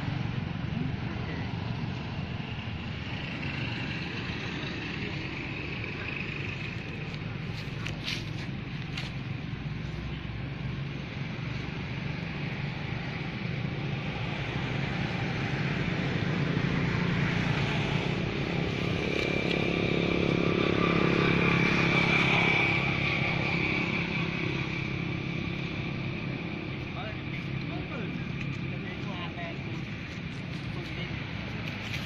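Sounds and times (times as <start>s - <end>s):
vehicle engine passing: 0.0s - 32.0s.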